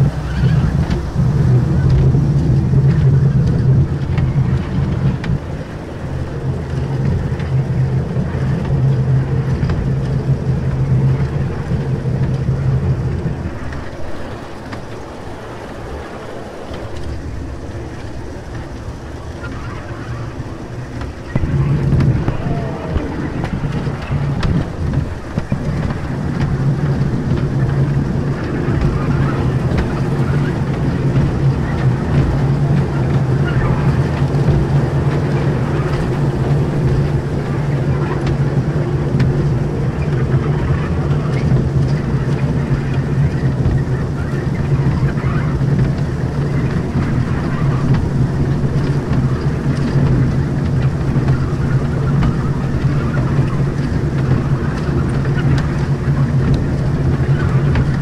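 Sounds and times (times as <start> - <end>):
ride train drone and rumble: 0.0 - 58.0.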